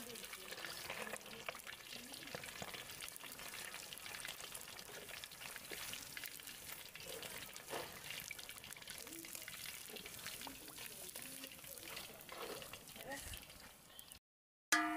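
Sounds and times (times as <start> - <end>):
chicken sizzling in hot oil: 0.0 - 14.2.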